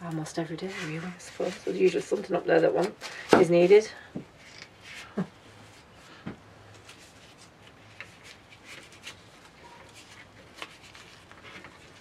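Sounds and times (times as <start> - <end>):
rustling of dry onion skins: 0.0 - 12.0.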